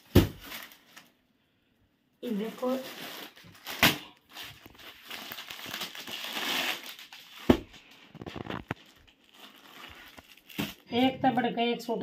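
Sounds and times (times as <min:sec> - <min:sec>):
bags crinkling and rustling: 0:00.0 - 0:01.2, 0:02.2 - 0:11.1.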